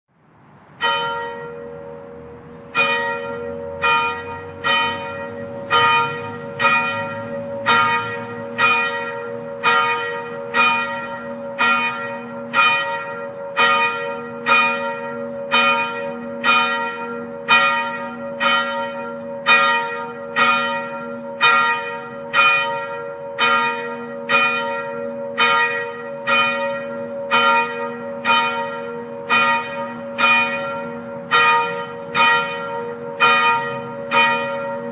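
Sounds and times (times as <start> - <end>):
church bell tolling: 0.8 - 34.9.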